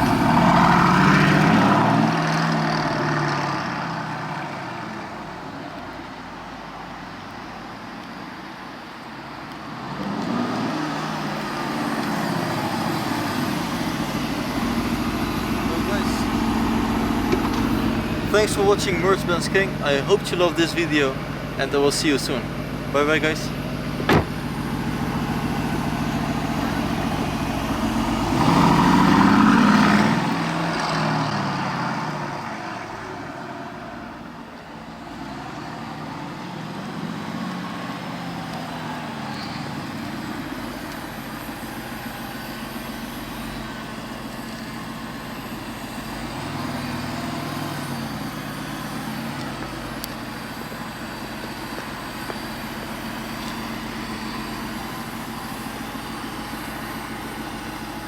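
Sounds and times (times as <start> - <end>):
sports car engine running: 10.9 - 33.2, 33.8 - 58.0.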